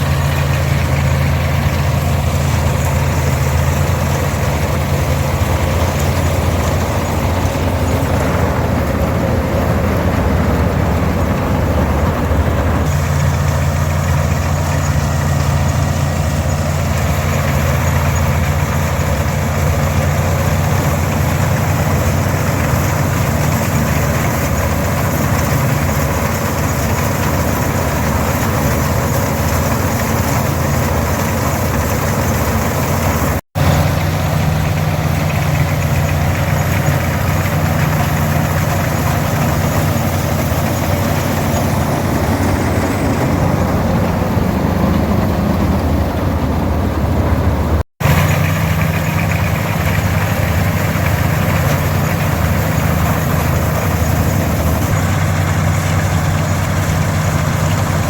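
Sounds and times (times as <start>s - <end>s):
combine harvester running: 0.0s - 58.0s
tractor diesel engine under load: 0.0s - 58.0s.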